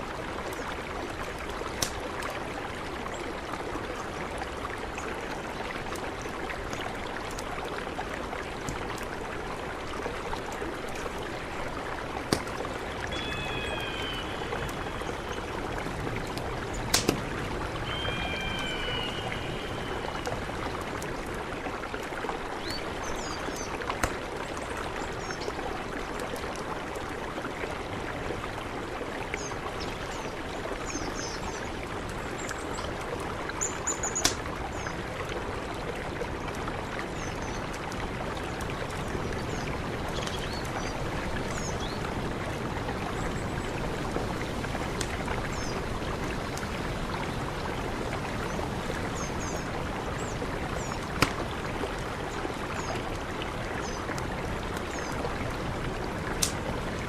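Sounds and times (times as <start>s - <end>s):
river rushing: 0.0s - 29.8s, 37.8s - 57.0s.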